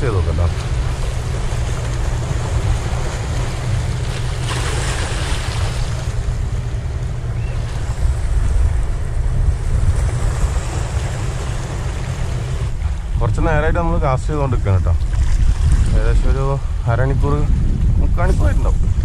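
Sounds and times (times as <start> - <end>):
waves washing against rocks: 0.0 - 19.0
wind buffeting microphone: 0.0 - 19.0.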